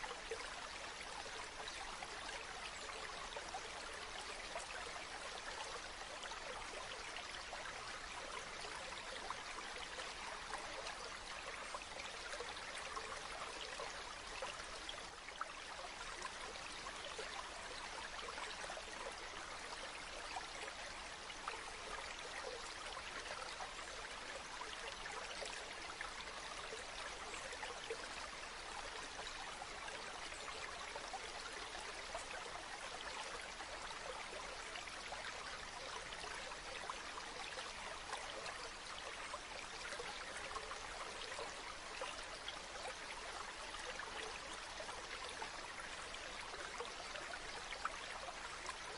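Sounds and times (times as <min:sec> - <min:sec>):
stream water trickling: 0:00.0 - 0:48.9.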